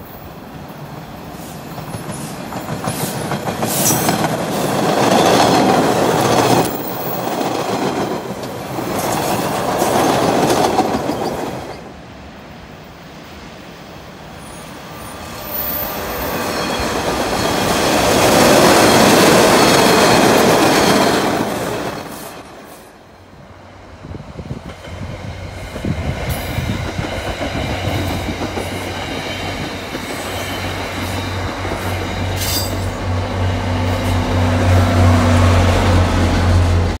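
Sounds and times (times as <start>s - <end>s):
diesel locomotive drone: 0.0s - 37.0s
subway train rushing past: 0.0s - 37.0s
train wheels clicking over rails: 1.2s - 11.9s, 15.9s - 23.0s, 24.3s - 36.7s.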